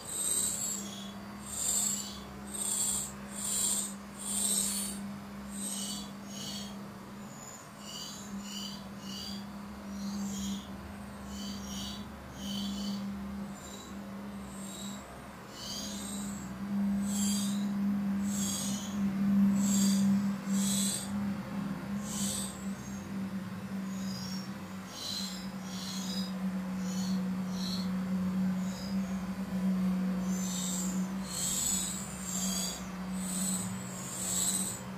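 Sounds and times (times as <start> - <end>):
nestlings begging calls: 0.0 - 23.2, 23.8 - 34.9
steady low hum: 0.0 - 34.9.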